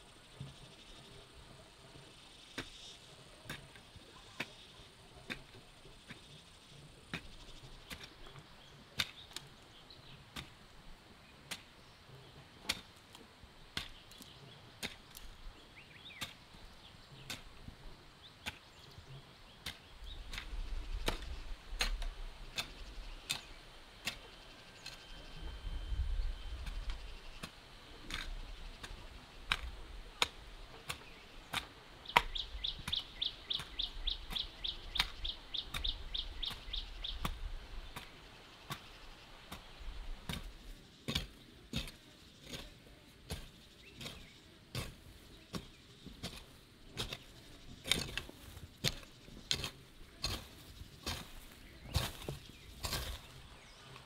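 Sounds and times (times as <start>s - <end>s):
hand hoe chopping into soil: 2.5s - 10.7s, 11.3s - 11.9s, 12.6s - 15.4s, 16.0s - 17.7s, 18.4s - 25.1s, 26.6s - 54.0s.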